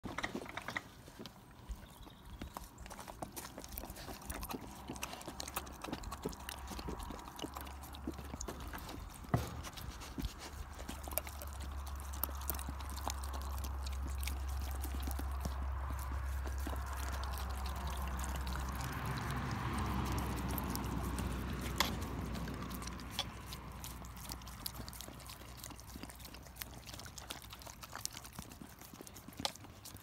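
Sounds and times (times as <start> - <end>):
low steady rumble: 1.6 - 29.4
puppy licking and lapping: 1.7 - 30.0.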